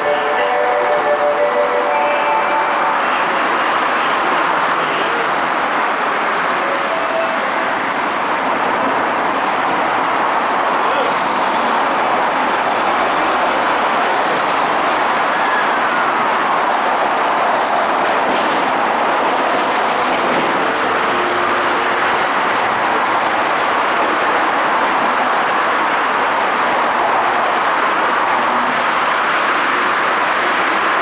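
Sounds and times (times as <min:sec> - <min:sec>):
electric train running on track: 0:00.0 - 0:31.0
road traffic noise: 0:00.0 - 0:31.0.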